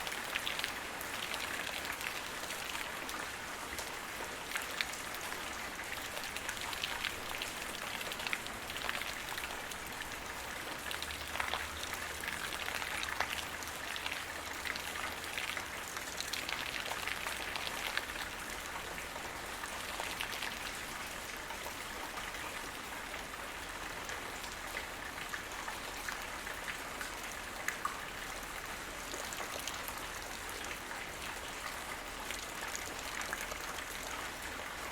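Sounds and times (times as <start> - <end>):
light rain falling: 0.0 - 34.9
raindrops pattering on ground: 0.0 - 34.9.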